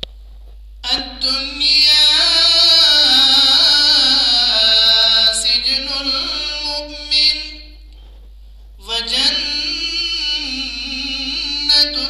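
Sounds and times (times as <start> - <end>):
man chanting melodically: 0.8 - 7.9, 8.8 - 12.0.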